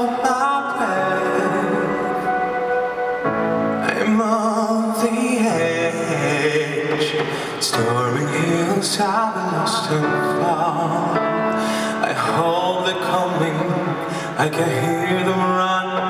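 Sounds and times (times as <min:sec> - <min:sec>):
man singing pop ballad: 0:00.0 - 0:02.5, 0:03.8 - 0:16.0
instrumental backing: 0:00.0 - 0:16.0.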